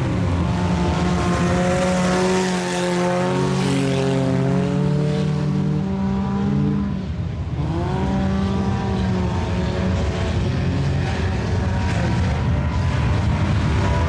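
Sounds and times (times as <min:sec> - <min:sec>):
race car engines running: 0:00.0 - 0:14.0.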